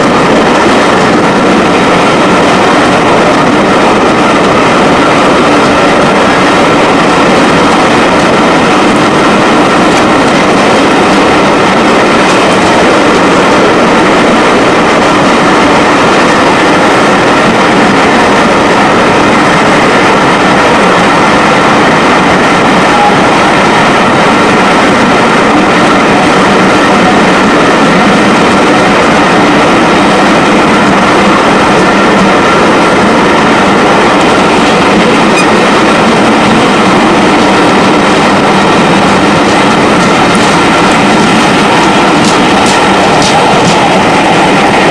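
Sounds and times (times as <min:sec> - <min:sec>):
train running noise: 0:00.0 - 0:44.9.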